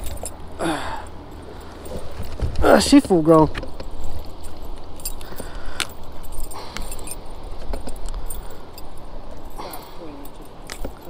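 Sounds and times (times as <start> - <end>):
metal clicking and jingling: 0.0 - 11.0.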